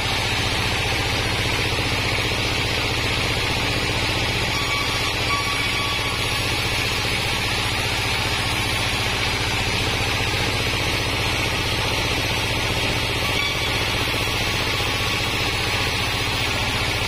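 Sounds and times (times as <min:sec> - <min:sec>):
band saw cutting wood: 0:00.0 - 0:10.8, 0:11.9 - 0:17.0
diesel engine running: 0:00.0 - 0:17.0.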